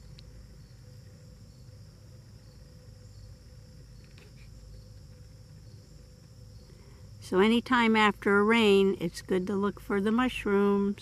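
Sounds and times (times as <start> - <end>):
insect trill: 0.0 - 11.0.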